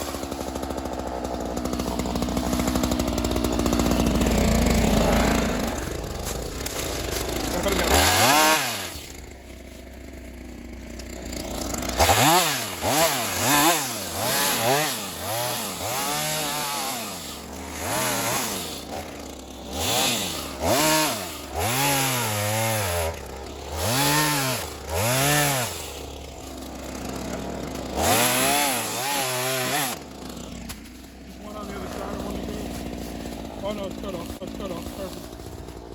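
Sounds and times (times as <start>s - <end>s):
chainsaw revving and idling: 0.0s - 35.9s.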